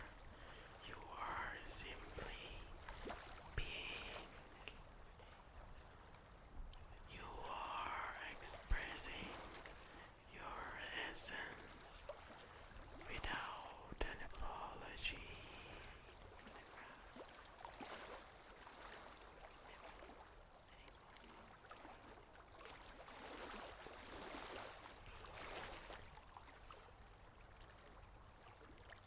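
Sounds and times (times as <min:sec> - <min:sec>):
water trickle and hiss ambient: 0:00.0 - 0:29.0.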